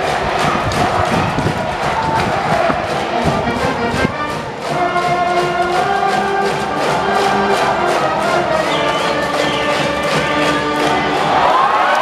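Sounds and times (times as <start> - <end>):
steady drum beat: 0.0 - 11.8
brass band horns playing: 0.0 - 12.0.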